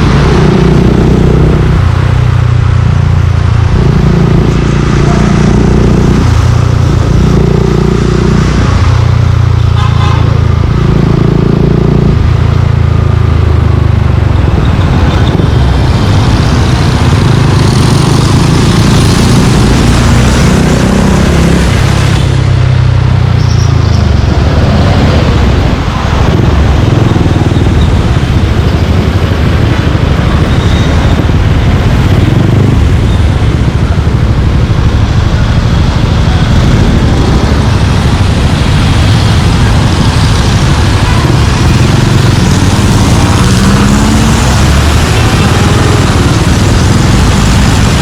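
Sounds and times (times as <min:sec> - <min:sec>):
motorcycle engine running: 0:00.0 - 0:48.0
street traffic: 0:00.0 - 0:48.0.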